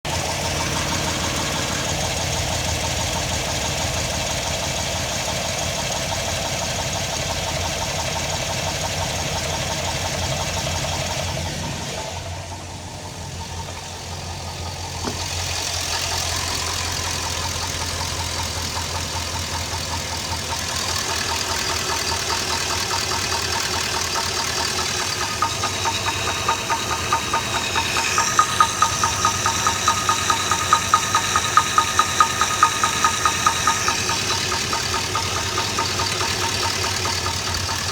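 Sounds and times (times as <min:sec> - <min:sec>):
engine running with rapid knock: 0:00.0 - 0:37.9.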